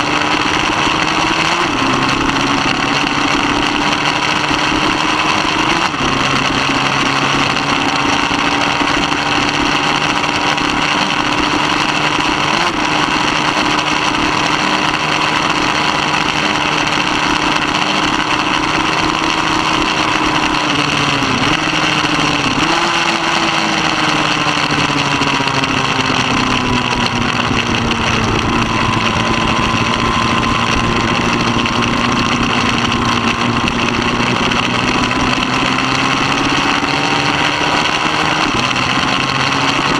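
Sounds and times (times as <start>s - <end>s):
racing motorcycle engine high revs: 0.0s - 39.9s.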